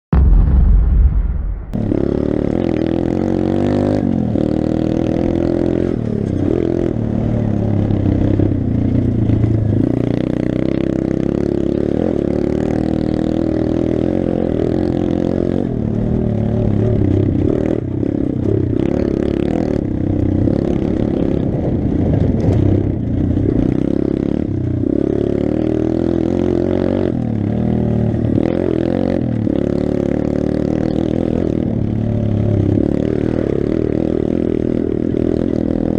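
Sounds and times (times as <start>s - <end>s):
clatter: 0.2s - 35.9s
motorbike engine revving: 1.8s - 35.9s.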